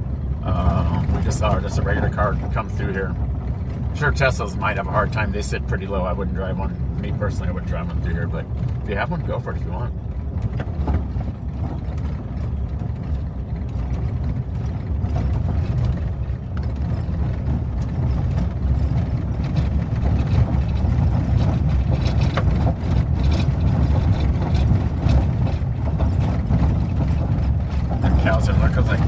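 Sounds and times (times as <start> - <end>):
engine and tyres rumbling: 0.0 - 29.0
vehicle knocks and rattles: 0.0 - 29.0.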